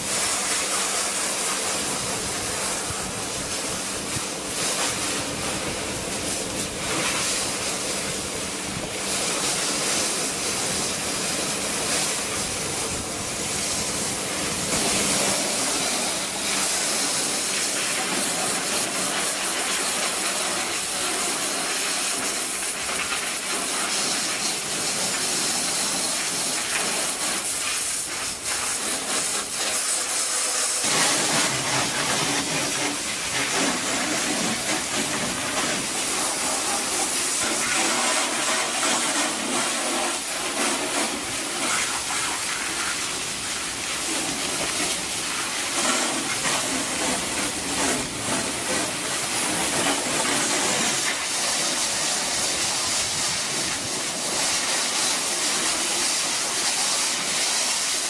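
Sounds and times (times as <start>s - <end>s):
pressure washer spray hiss: 0.0s - 58.0s.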